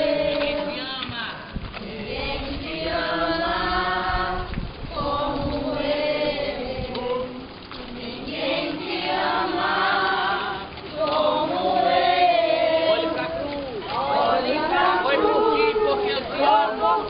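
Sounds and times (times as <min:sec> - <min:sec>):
crowd singing a hymn: 0:00.0 - 0:17.0.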